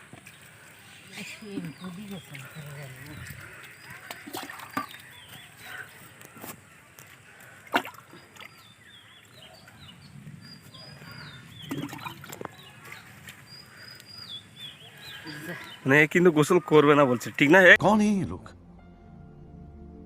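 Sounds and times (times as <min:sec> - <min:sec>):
small birds chirping: 0:00.0 - 0:17.6.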